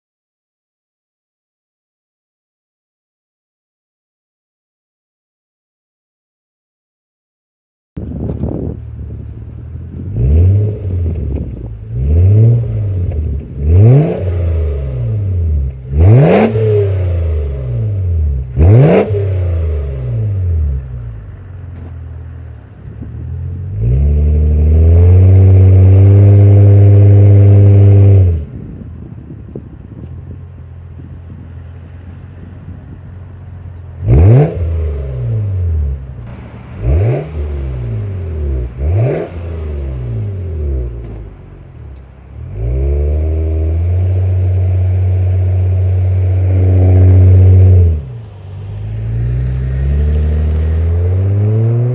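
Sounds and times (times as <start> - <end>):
car exhaust idling and revving: 8.0 - 51.9.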